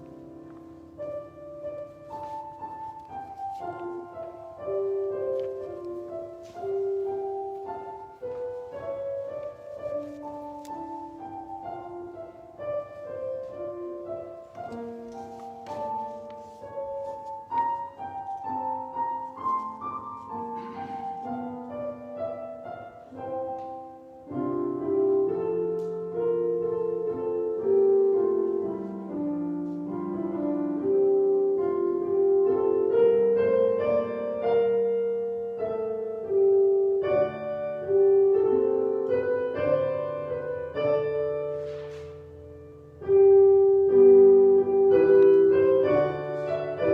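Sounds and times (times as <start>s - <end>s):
slow piano melody: 0.0s - 46.9s.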